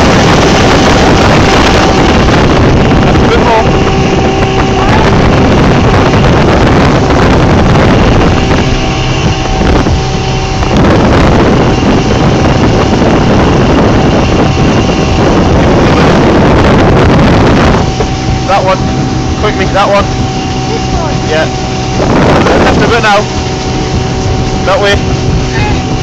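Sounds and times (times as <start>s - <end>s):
speedboat engine running: 0.0s - 26.0s
wind noise on microphone: 0.0s - 26.0s.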